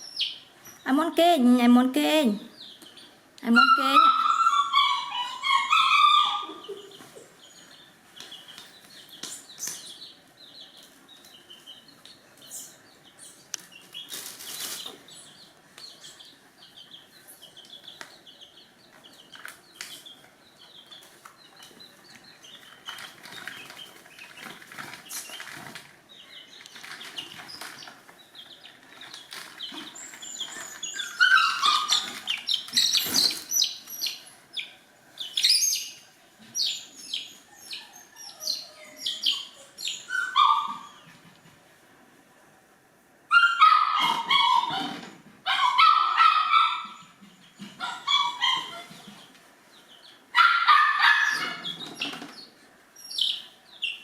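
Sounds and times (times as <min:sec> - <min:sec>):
chickens chirping: 0:00.0 - 0:01.2, 0:02.4 - 0:41.8, 0:43.4 - 0:54.0.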